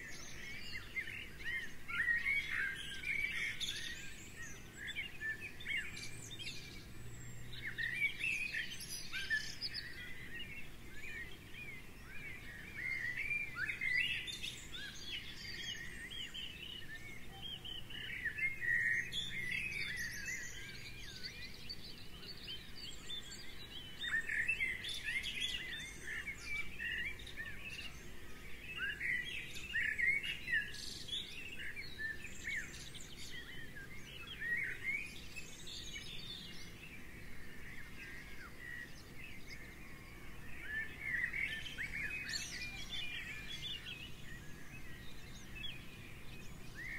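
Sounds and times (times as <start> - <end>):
songbirds chirping and singing: 0.0 - 46.9.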